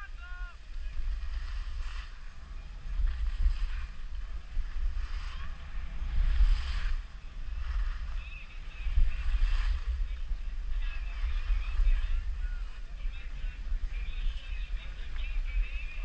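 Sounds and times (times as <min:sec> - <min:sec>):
skis scraping on snow: 0:00.0 - 0:16.0
wind buffeting microphone: 0:00.0 - 0:16.0.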